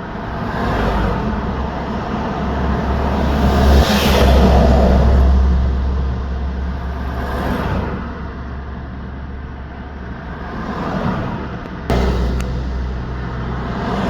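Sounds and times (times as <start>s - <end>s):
deep traffic rumble: 0.0s - 14.0s
vehicles passing: 0.0s - 14.0s.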